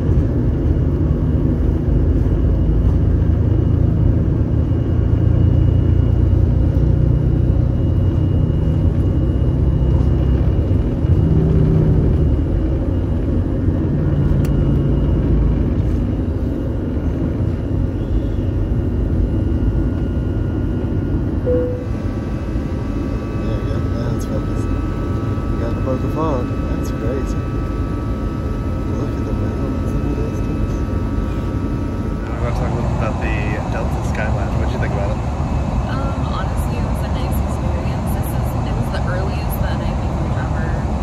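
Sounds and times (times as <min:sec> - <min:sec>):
jet engines rumbling in cabin: 0:00.0 - 0:41.0.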